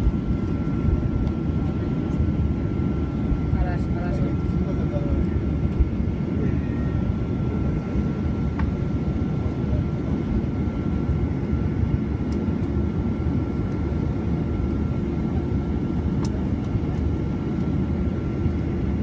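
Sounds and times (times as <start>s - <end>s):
jet engines roaring in cabin: 0.0s - 19.0s.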